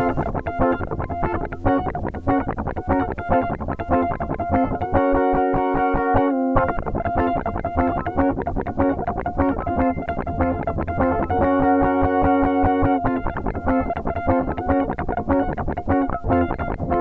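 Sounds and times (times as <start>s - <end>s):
distorted guitar music: 0.0s - 17.0s.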